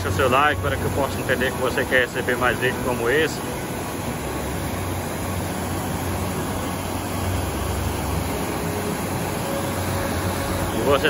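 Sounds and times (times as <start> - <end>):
water rushing over dam spillway: 0.0 - 11.0.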